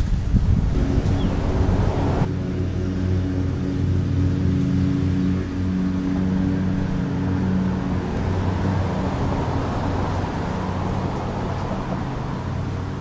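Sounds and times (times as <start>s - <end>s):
car passing: 0.0s - 13.0s
low steady hum: 0.1s - 13.0s.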